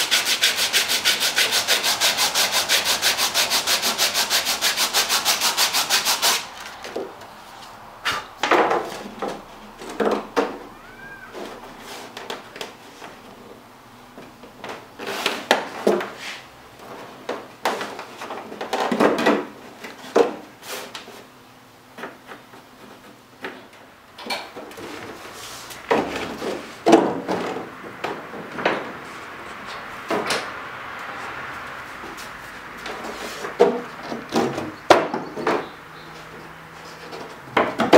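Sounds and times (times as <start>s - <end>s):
wooden strips knocking and scraping: 0.7s - 10.7s, 14.1s - 20.5s, 21.9s - 30.6s, 32.0s - 37.9s.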